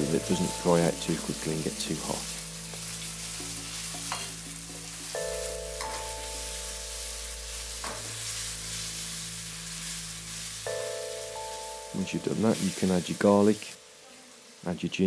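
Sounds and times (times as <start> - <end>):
onion sizzling in pan: 0.0 - 15.0.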